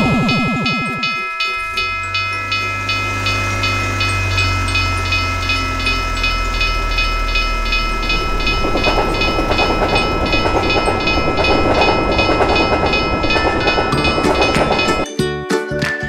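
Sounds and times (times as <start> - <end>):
railroad crossing bell ringing: 0.0 - 15.1
train wheels clattering: 0.0 - 15.1
truck engine hum: 0.0 - 15.1.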